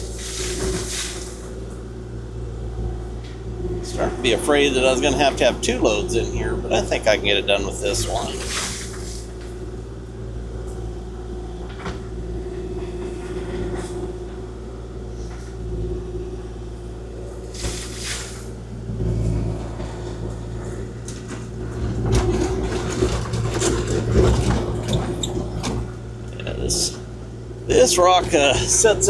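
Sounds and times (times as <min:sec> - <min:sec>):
excavator diesel engine running: 0:00.0 - 0:29.0
hydraulics working: 0:00.0 - 0:29.0.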